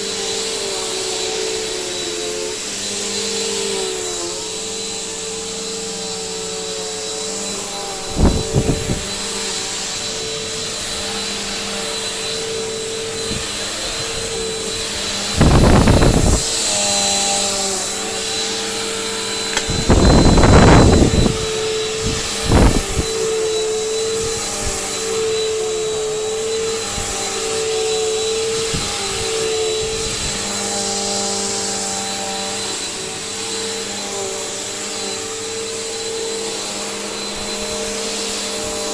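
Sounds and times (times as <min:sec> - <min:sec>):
upright vacuum cleaner running: 0:00.0 - 0:38.9.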